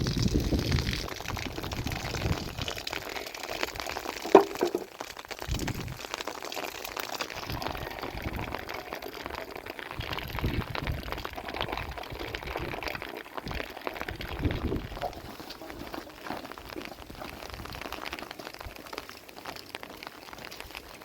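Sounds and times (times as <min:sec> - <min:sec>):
small irregular taps and crackles: 0:00.0 - 0:21.0
water pouring and splashing: 0:00.0 - 0:21.0.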